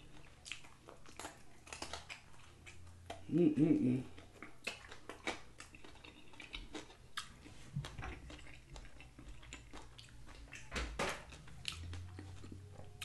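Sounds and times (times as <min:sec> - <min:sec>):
man chewing and lip smacking: 0:00.0 - 0:13.0.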